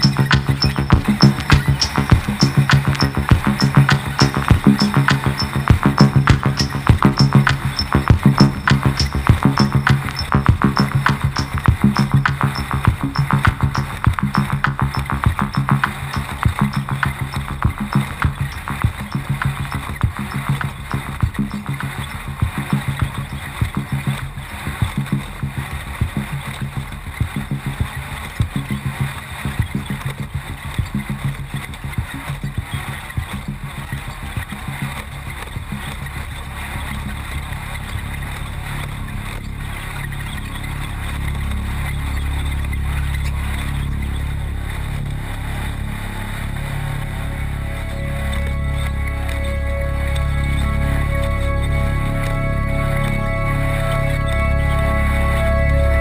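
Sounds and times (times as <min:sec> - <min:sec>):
off-road engine running hard: 0:00.0 - 0:56.0.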